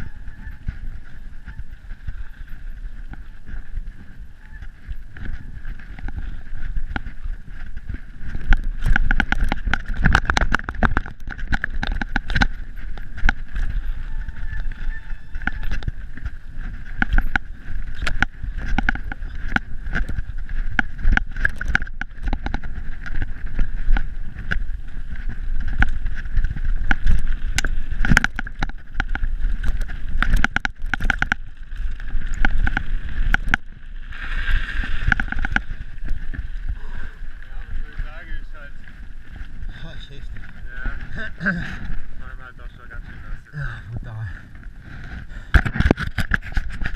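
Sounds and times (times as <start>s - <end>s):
bike rattling over roots: 0.0s - 46.9s
wind on microphone: 0.0s - 46.9s.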